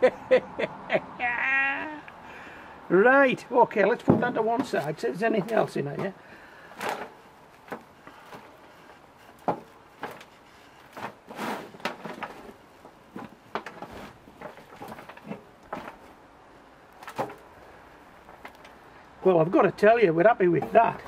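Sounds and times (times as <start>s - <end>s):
hands rummaging through compost: 3.6s - 21.0s.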